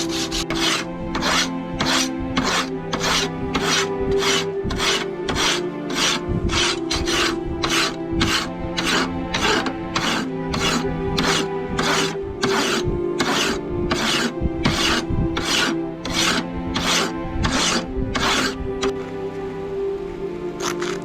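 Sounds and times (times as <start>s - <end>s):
file rasping in strokes: 0.0s - 19.0s
background music: 0.0s - 21.0s.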